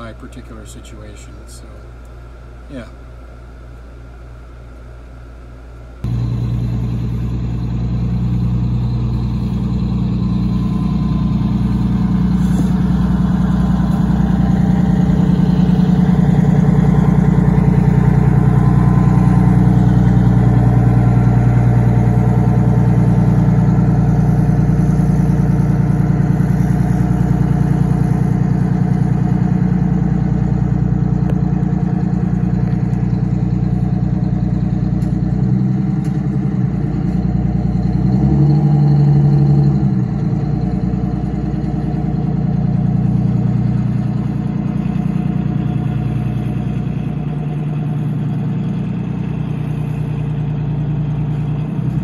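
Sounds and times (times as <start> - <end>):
bus engine rumbling: 0.0 - 52.0.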